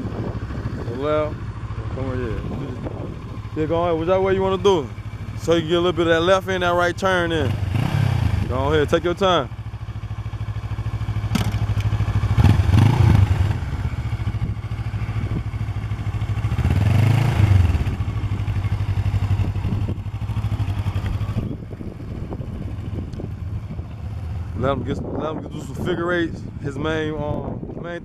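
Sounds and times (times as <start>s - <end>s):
motorcycle engine revving: 0.0s - 27.1s.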